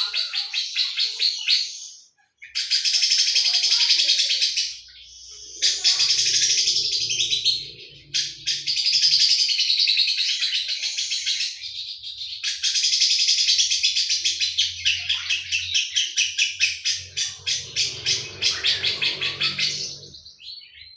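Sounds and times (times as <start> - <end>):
bird chattering trill: 2.5 - 11.6, 12.5 - 20.4.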